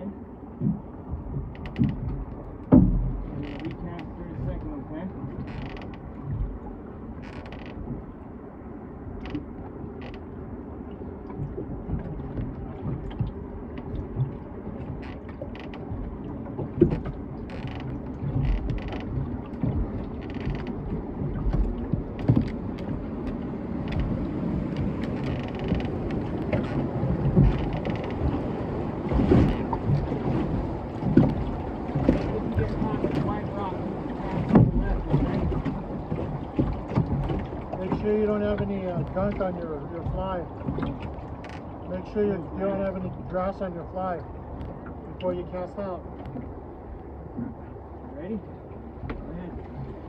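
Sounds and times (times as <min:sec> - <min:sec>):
oars creaking in oarlocks: 0:00.0 - 0:50.0
rumble of moving water: 0:00.0 - 0:50.0.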